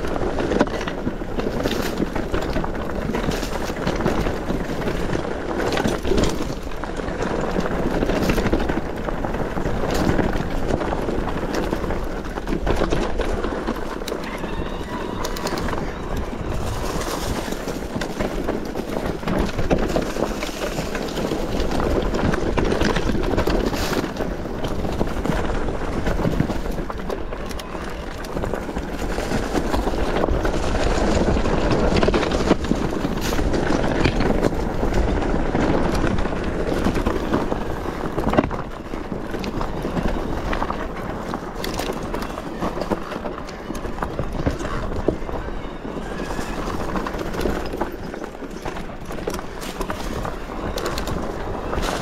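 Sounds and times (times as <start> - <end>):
bike rattling over bumps: 0.0 - 52.0
tyres crunching over gravel: 0.0 - 52.0.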